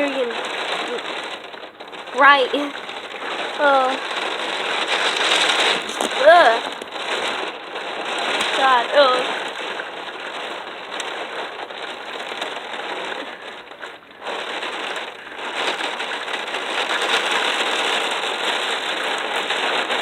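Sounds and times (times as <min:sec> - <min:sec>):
heavy rain on a window: 0:00.0 - 0:20.0.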